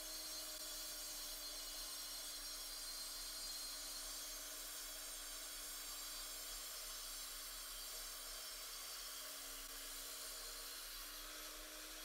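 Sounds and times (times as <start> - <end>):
concrete saw motor whine: 0.0 - 12.0.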